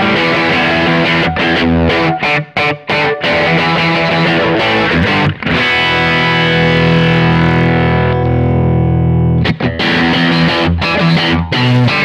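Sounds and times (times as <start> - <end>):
electric guitar chords through amp: 0.0 - 12.0.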